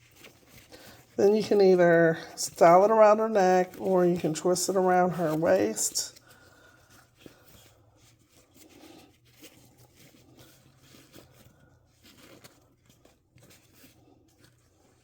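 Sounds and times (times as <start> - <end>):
faint fabric rustling: 0.0 - 15.0.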